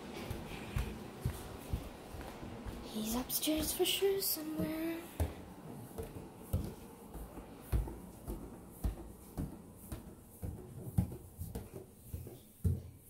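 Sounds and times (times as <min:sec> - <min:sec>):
footsteps on wooden stairs: 0:00.0 - 0:13.0.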